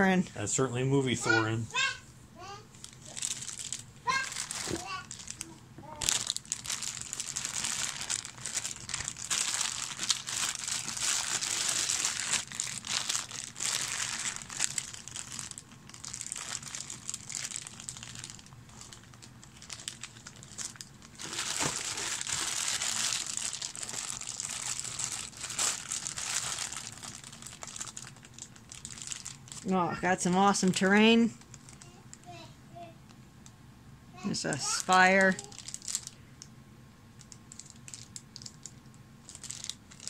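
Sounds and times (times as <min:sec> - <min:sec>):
plastic bags crinkling: 0:02.8 - 0:32.2, 0:34.6 - 0:36.2, 0:37.2 - 0:40.0.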